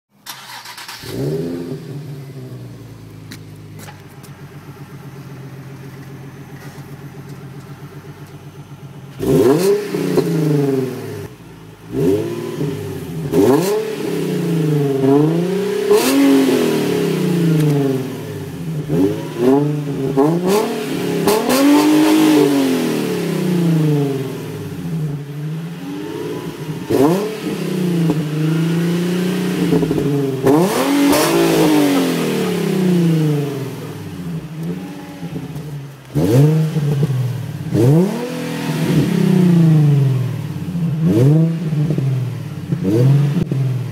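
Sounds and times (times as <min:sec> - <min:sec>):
raspy car exhaust revving: 0:01.0 - 0:43.9.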